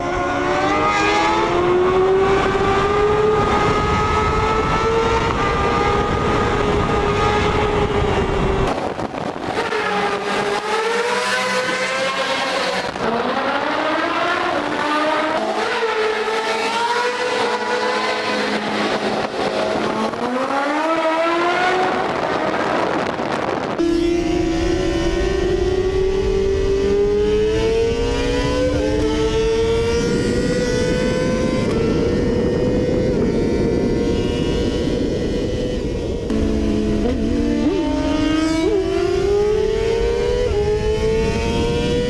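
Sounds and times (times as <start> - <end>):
motorcycle engine revving high: 0.0 - 42.0.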